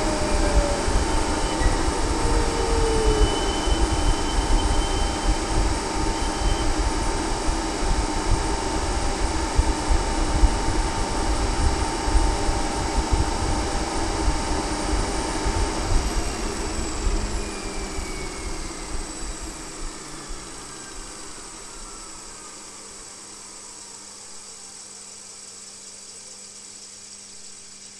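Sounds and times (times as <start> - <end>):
motors whining as they spin down: 0.0 - 24.8
steady low hum: 0.0 - 24.8.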